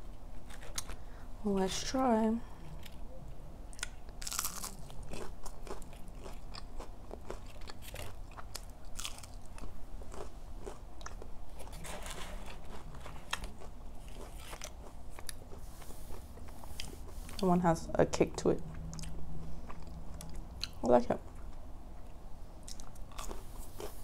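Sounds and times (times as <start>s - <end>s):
crunchy chewing of breaded food: 0.3s - 1.2s, 3.7s - 17.4s, 18.7s - 24.0s.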